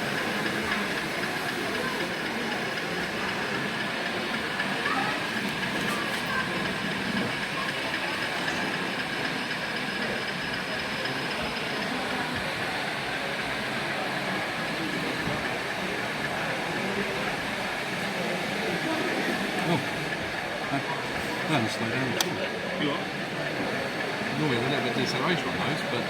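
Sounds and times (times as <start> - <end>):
hubbub of crowded hall: 0.0 - 26.0
model train whine: 0.0 - 26.0.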